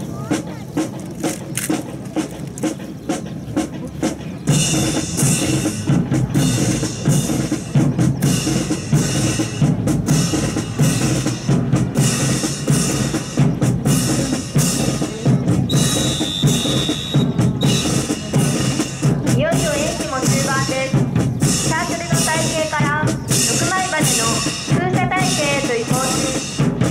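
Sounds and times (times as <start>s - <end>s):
drum-led march music: 0.0s - 26.9s.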